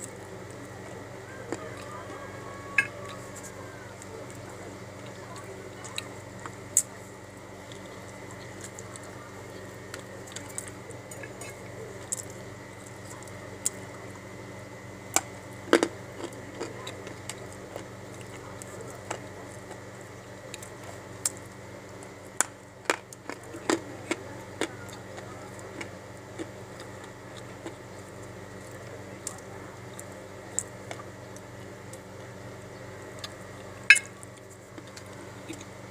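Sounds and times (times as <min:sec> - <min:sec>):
chewing crunches close up: 0:00.0 - 0:35.9
steady low hum: 0:00.0 - 0:35.9.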